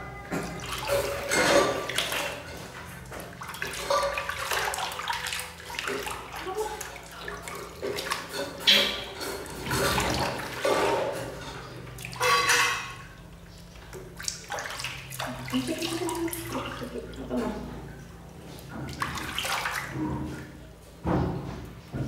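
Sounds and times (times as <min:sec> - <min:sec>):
water splashing in a basin: 0:00.3 - 0:21.8.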